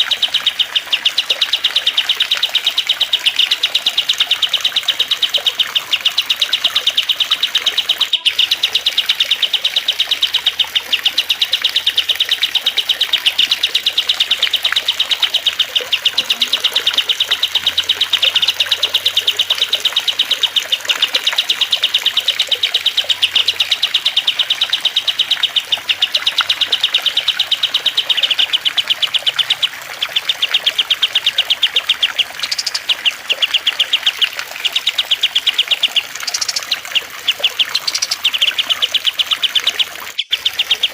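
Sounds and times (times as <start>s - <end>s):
birds chirping rapidly: 0.0s - 40.9s.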